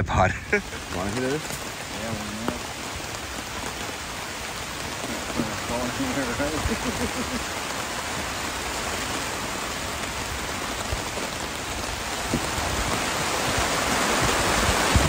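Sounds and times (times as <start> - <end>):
rain on a tarp: 0.1 - 15.0.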